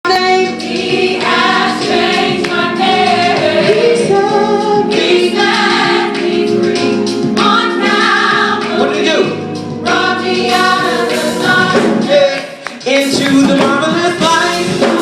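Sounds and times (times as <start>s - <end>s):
choir singing in harmony: 0.3s - 15.0s.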